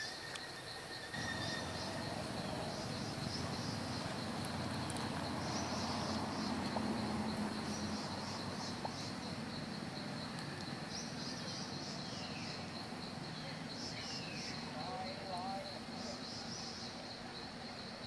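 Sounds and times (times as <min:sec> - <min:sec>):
insects trilling: 0:00.0 - 0:18.0
outdoor hiss: 0:00.0 - 0:18.0.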